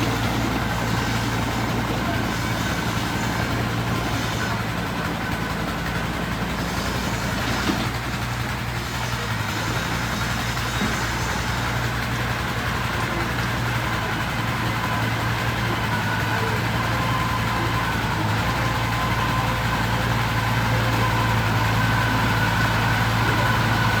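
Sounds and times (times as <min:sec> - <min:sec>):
heavy vehicle engine droning: 0:00.0 - 0:24.0.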